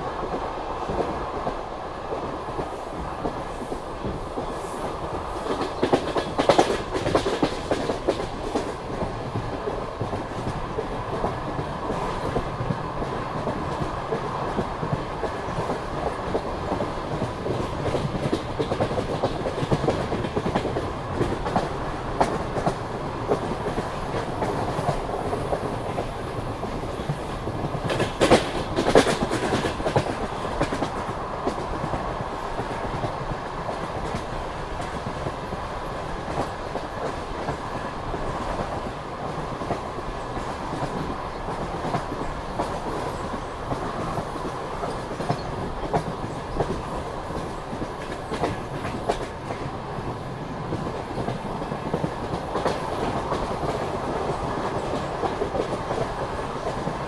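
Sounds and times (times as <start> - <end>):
train wheels clattering over rails: 0.3 - 57.0.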